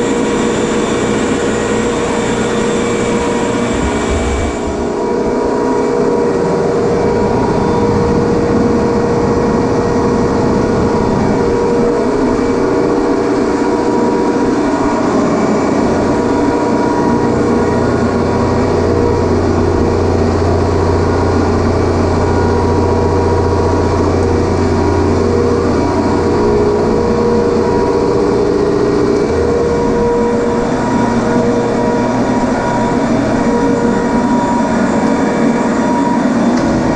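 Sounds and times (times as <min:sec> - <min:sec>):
compressors droning: 0:00.0 - 0:36.9
deep hum: 0:00.0 - 0:36.9.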